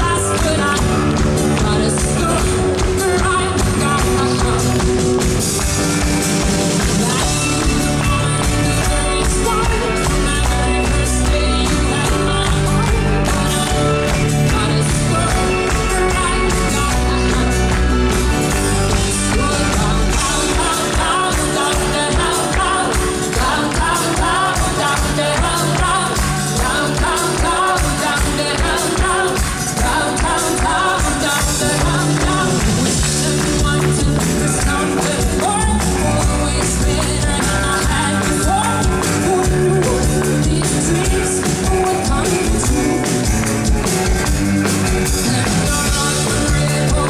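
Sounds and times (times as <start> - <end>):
woman singing lead: 0.0 - 5.3, 6.4 - 47.0
drums: 0.0 - 47.0
electric guitars: 0.0 - 47.0
keyboards: 0.0 - 47.0.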